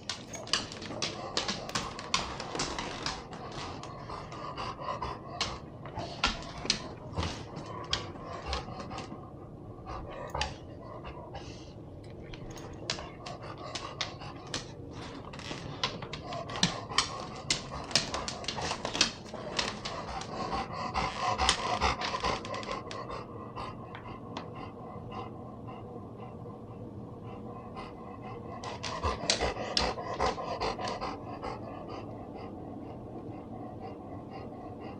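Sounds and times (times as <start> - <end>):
dog panting: 0.0 - 34.9.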